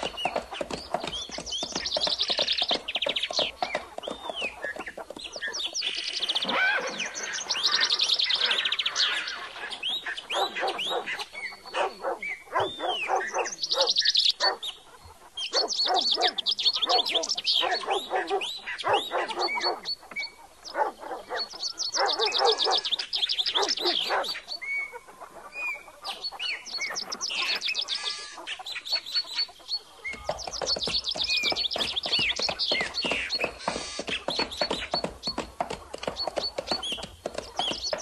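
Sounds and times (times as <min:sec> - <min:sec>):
birds chirping and calling: 0:00.0 - 0:38.0.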